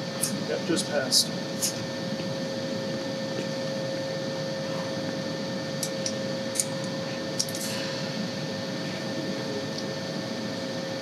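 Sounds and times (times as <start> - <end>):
air-handling equipment hum: 0.0 - 11.0.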